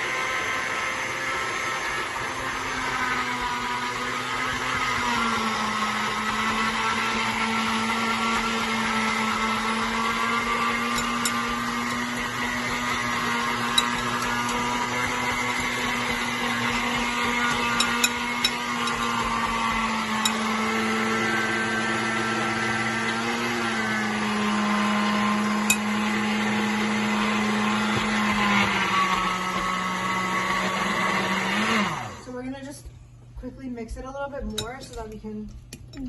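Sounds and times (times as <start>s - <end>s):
electric blender motor grinding: 0.0s - 32.4s.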